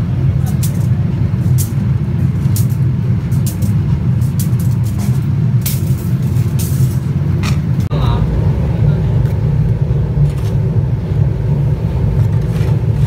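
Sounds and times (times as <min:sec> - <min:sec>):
low machine rumble: 0:00.0 - 0:13.0.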